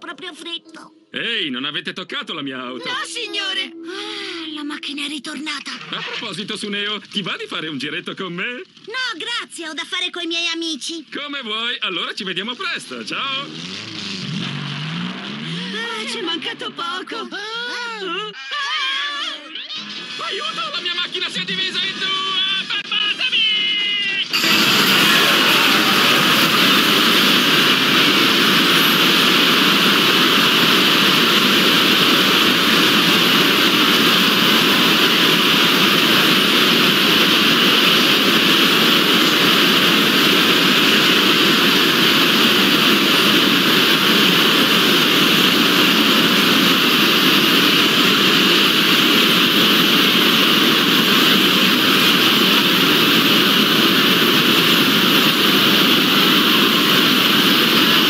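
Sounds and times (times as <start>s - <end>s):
many video soundtracks overlapping: 0.0s - 58.0s.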